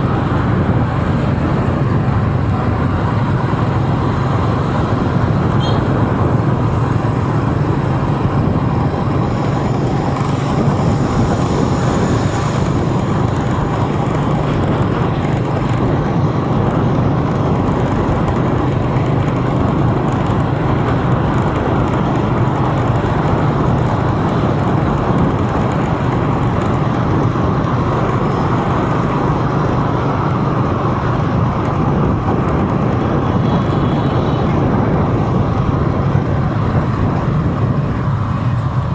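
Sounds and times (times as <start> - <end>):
vehicle and road noise: 0.0 - 38.9.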